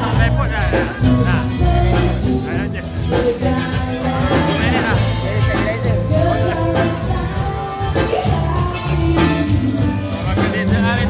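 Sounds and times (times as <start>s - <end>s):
bass: 0.0s - 11.0s
drums: 0.0s - 11.0s
electric guitar: 0.0s - 11.0s
keyboard: 0.0s - 11.0s
person singing: 0.0s - 11.0s.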